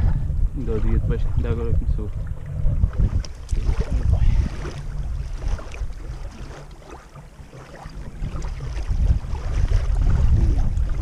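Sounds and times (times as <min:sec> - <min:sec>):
water splashing and lapping: 0:00.0 - 0:11.0
wind rumbling on microphone: 0:00.0 - 0:11.0.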